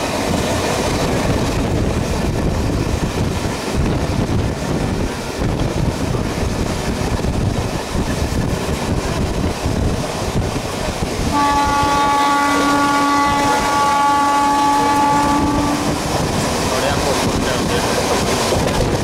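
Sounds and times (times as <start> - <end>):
moving train rumbling: 0.0 - 19.0
wind rushing over microphone: 0.0 - 19.0.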